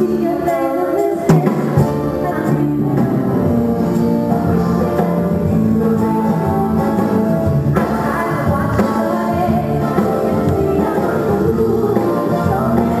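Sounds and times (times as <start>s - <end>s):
band with guitar: 0.0s - 13.0s
woman singing: 0.0s - 13.0s.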